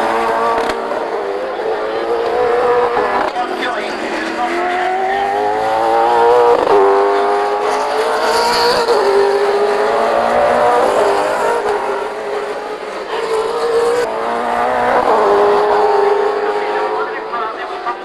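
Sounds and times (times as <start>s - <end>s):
racing car engine: 0.0s - 18.0s.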